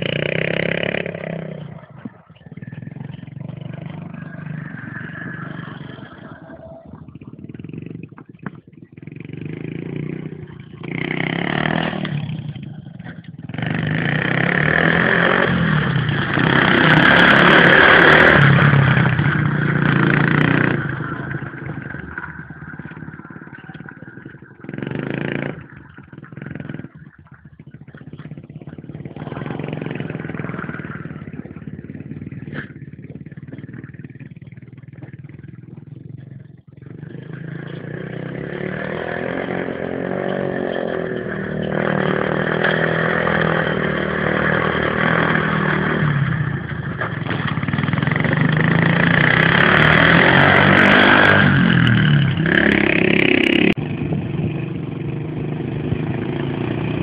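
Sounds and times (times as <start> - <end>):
all-terrain vehicle engine: 0.0 - 57.0.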